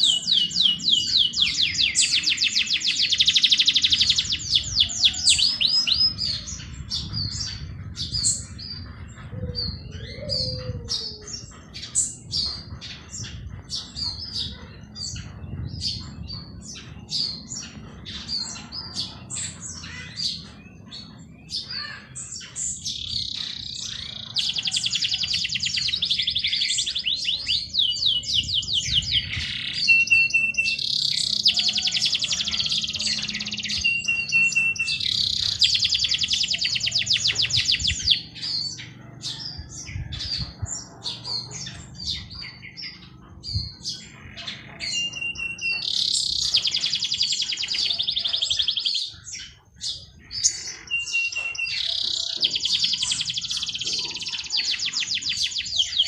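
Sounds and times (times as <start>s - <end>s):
songbird singing trilled phrases: 0.0s - 56.0s.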